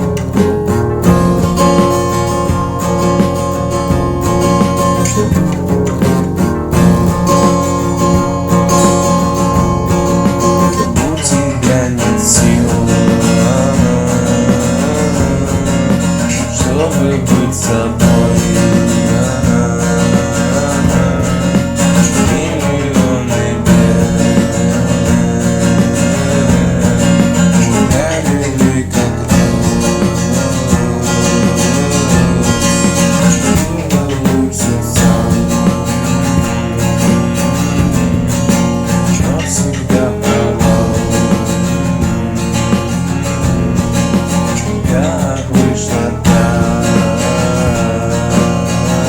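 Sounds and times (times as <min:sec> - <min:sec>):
guitar: 0:00.0 - 0:49.0
repeating bass line: 0:00.0 - 0:49.0.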